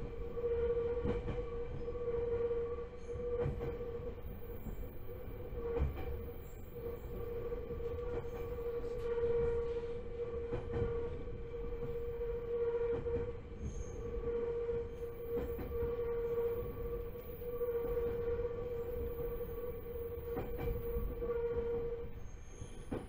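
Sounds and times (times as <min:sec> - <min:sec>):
electric train hum: 0:00.0 - 0:23.0
train wheels rumbling: 0:00.0 - 0:23.0.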